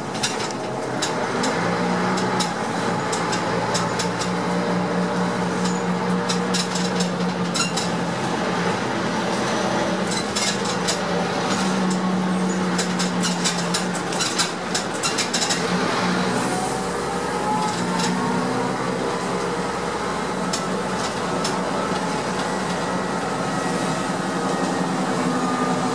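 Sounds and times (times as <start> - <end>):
bus engine hum: 0.0 - 25.9.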